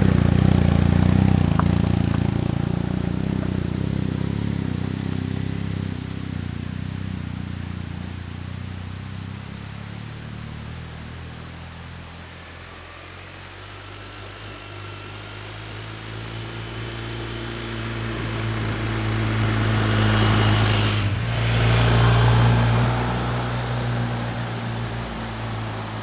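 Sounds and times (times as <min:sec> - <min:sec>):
motorcycle passing by: 0:00.0 - 0:26.0.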